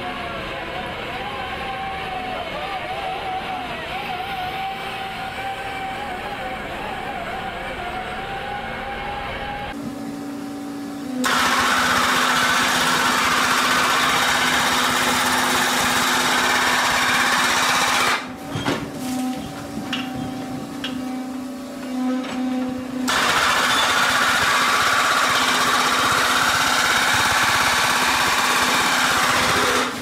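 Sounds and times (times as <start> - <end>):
hydraulic machine humming: 0.0 - 30.0
loader engine wavering: 0.0 - 30.0.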